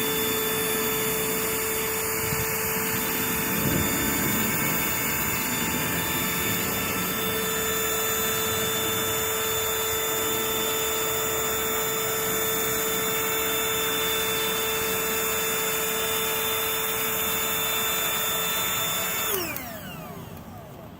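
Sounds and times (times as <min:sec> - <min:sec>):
electric air pump running: 0:00.0 - 0:20.9.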